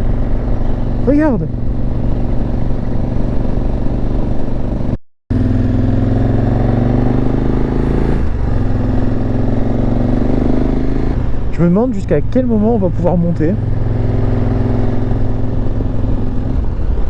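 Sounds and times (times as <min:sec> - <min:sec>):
motorcycle engine pulling uphill: 0:00.0 - 0:17.0.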